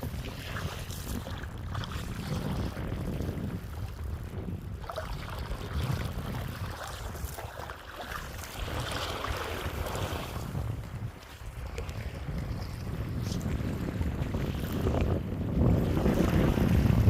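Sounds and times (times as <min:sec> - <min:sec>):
water lapping and splashing: 0:00.0 - 0:17.0
wind buffeting microphone: 0:00.0 - 0:17.0.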